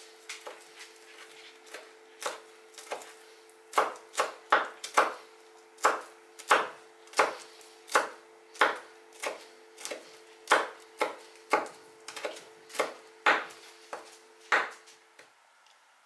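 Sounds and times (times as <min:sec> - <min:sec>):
faint steady hum: 0:00.0 - 0:16.0
knife chopping herbs on wood: 0:00.3 - 0:15.0.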